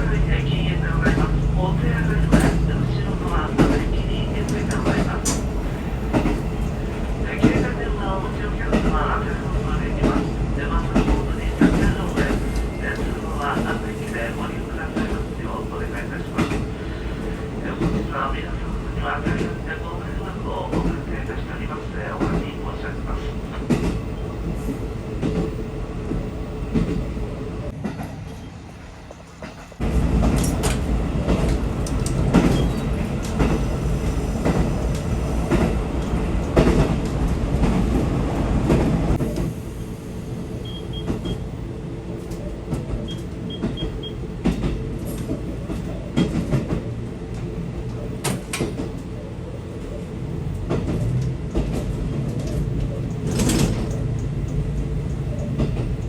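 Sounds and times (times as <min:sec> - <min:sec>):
rail clicks: 0:00.0 - 0:39.6, 0:40.3 - 0:56.0
train rumbling on rails: 0:00.0 - 0:56.0.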